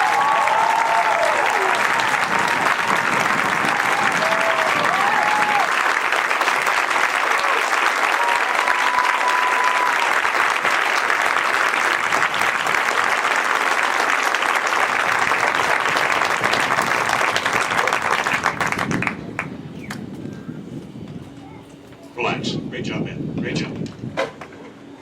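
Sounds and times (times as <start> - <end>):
audience applauding: 0.0 - 20.1.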